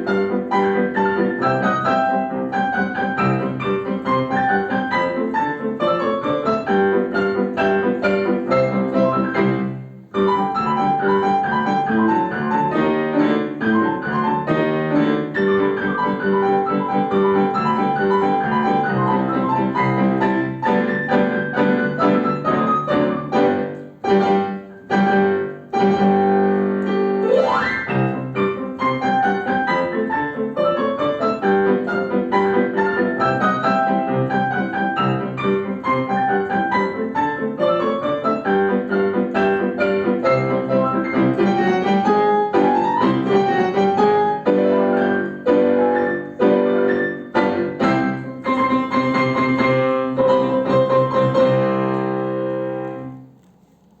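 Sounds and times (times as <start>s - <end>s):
piano duet: 0.0s - 54.0s
piano glissando: 0.0s - 54.0s.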